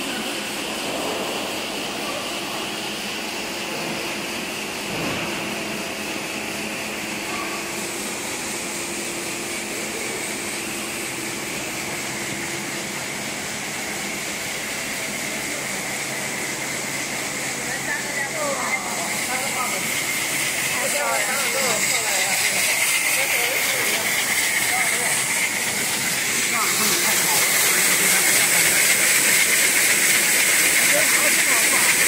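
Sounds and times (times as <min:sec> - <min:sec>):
machine whirring with hiss: 0:00.0 - 0:32.0.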